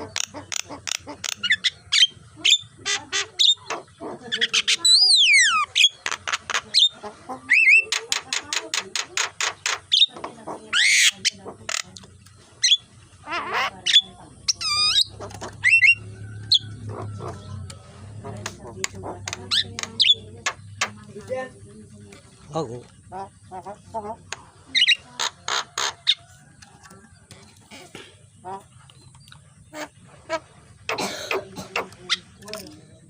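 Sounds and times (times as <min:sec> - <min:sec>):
bird chattering song: 0:00.0 - 0:33.0.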